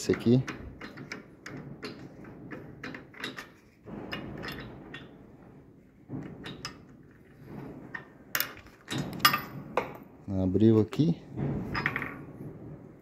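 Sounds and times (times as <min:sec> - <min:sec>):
metal clicks and knocks: 0:00.0 - 0:10.2, 0:11.2 - 0:13.0.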